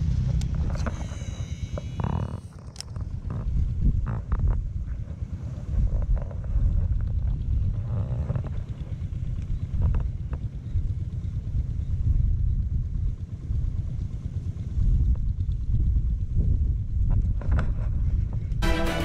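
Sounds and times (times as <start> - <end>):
wind buffeting microphone: 2.6 - 7.9, 8.5 - 18.6.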